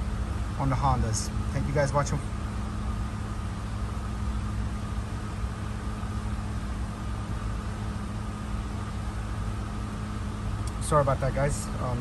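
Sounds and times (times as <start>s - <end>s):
faint steady whine: 0.0s - 12.0s
low vehicle hum in car cabin: 0.0s - 12.0s.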